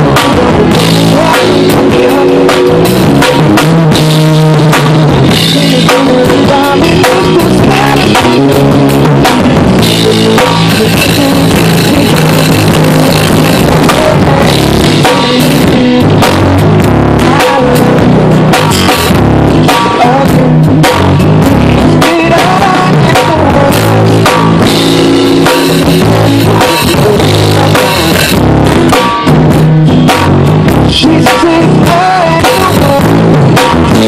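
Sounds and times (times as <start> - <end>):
drum kit hitting: 0.0 - 34.0
live rock band playing: 0.0 - 34.0.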